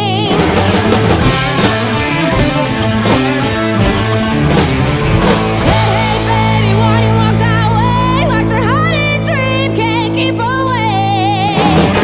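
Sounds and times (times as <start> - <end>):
hard rock band playing: 0.0 - 9.8, 10.6 - 12.0
person singing: 0.0 - 12.0.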